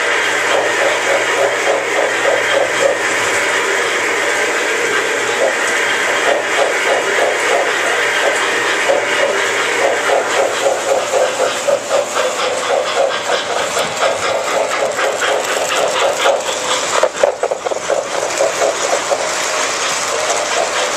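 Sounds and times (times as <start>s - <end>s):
model train clattering on track: 0.0s - 20.9s.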